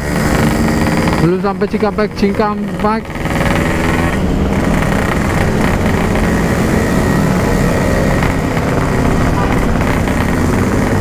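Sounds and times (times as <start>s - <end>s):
two-stroke motorcycle running: 0.0s - 11.0s.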